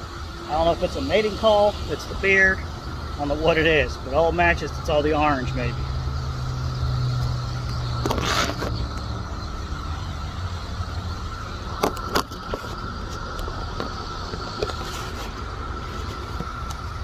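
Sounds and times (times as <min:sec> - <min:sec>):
cicadas droning: 0:00.0 - 0:17.0
low engine hum: 0:00.0 - 0:17.0.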